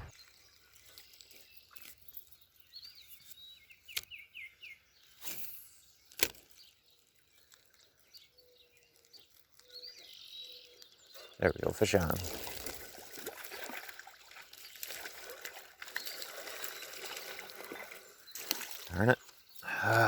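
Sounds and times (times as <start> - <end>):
small birds chirping: 0.0 - 20.0
streamside ambience: 0.0 - 20.0.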